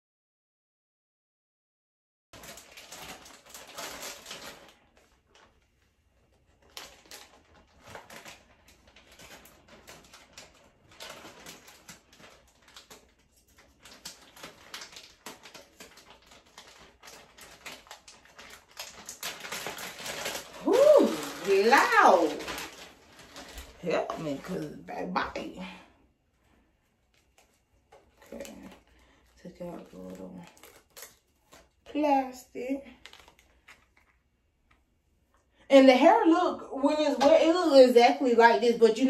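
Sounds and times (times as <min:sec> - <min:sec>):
plastic bag crinkling: 0:02.4 - 0:36.3.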